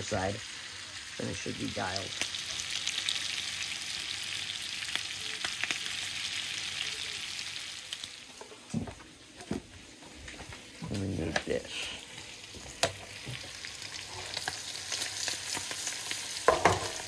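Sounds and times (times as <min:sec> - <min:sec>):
steak sizzling in butter: 0:00.0 - 0:08.4, 0:10.2 - 0:17.0.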